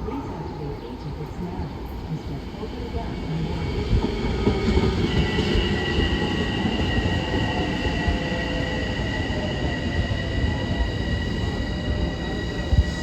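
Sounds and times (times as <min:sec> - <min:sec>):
train wheels rumbling on rails: 0:02.1 - 0:13.0.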